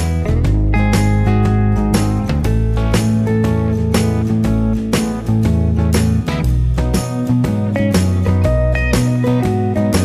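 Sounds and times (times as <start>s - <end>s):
steady bass: 0.0s - 10.0s
strummed acoustic guitar: 0.0s - 10.0s.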